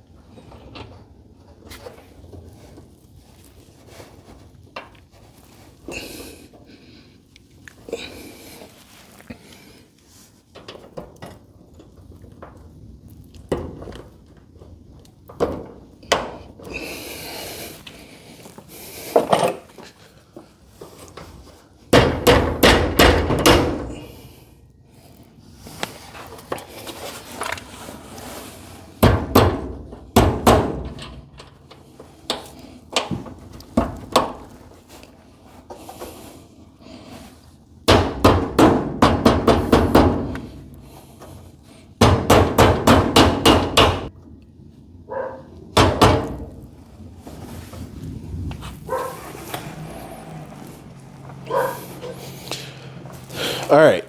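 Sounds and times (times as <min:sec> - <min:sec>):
handling knocks and clunks: 0:00.0 - 0:06.7, 0:10.5 - 0:24.4, 0:25.7 - 0:44.4, 0:45.1 - 0:54.0.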